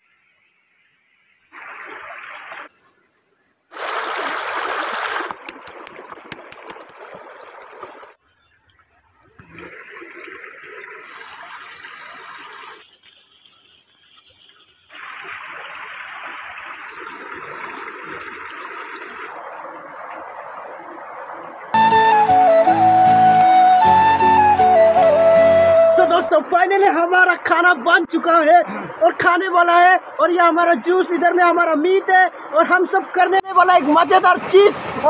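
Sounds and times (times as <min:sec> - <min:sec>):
stream water rushing: 0:01.5 - 0:03.0, 0:03.7 - 0:08.2, 0:09.0 - 0:35.0.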